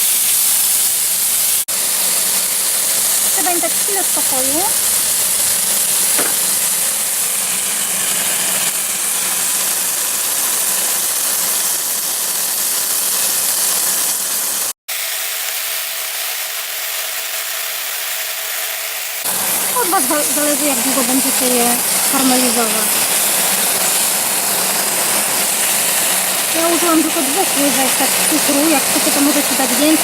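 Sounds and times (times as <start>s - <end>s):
fruit sizzling in a frying pan: 0.0s - 30.0s.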